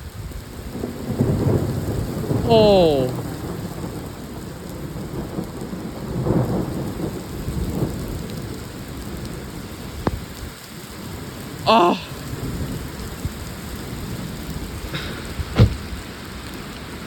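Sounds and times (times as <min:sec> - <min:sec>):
heavy rain pouring: 0:00.0 - 0:17.0
thunder rumbling: 0:00.1 - 0:17.0.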